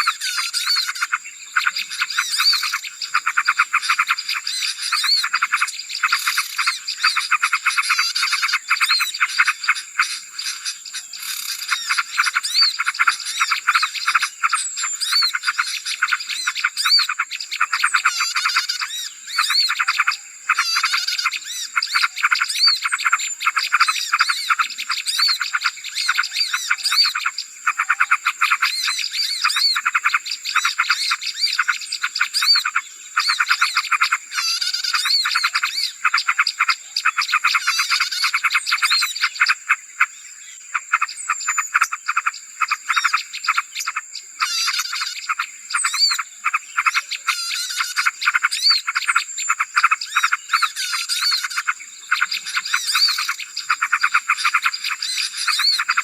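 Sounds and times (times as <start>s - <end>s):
songbirds chattering and chirping: 0.0s - 56.0s.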